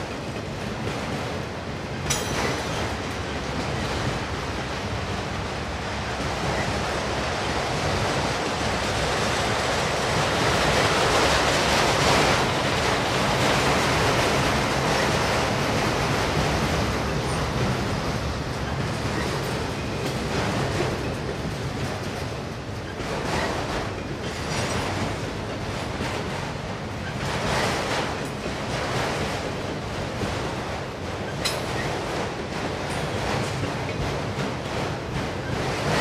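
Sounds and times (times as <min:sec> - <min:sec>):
freight cars rolling on rails: 0:00.0 - 0:36.0.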